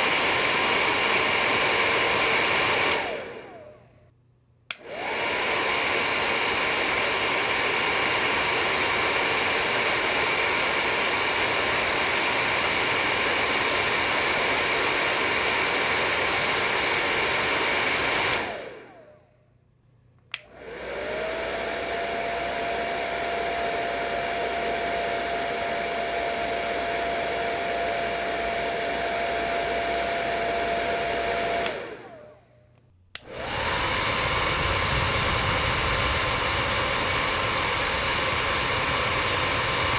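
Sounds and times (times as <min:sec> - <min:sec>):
hair dryer whining: 0:00.0 - 0:04.1, 0:04.7 - 0:19.4, 0:20.3 - 0:39.9.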